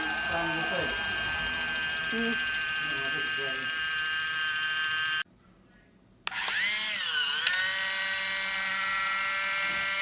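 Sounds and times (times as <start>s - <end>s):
electric can opener motor whine: 0.0s - 5.2s, 6.3s - 10.0s.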